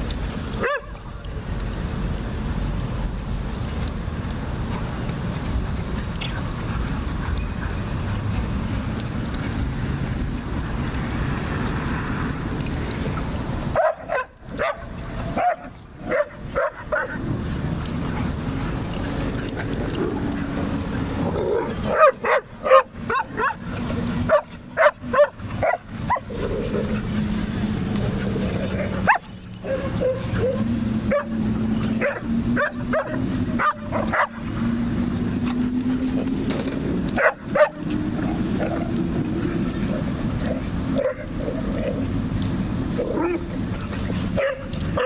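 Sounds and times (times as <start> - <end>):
dogs barking and yipping: 0.0 - 45.0.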